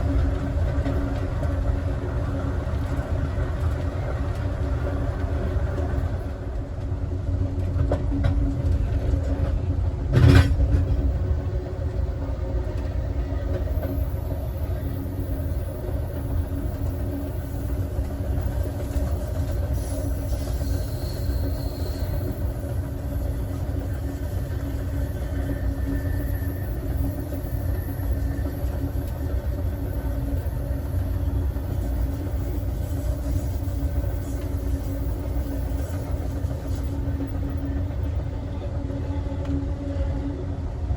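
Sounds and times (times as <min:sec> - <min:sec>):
train rumbling along rails: 0:00.0 - 0:40.9.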